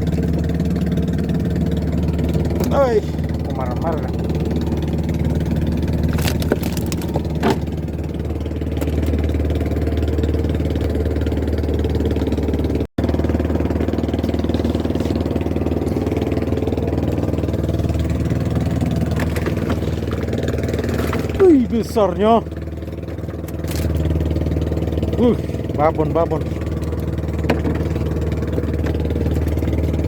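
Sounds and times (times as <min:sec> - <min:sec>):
small boat engine idling: 0:00.0 - 0:30.0.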